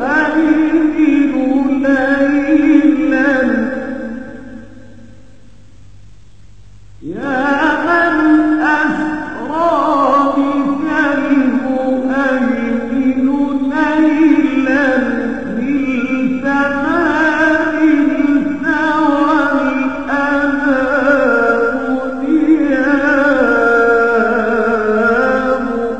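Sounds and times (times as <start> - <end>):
person singing devotional song: 0.0 - 5.0, 7.0 - 25.9.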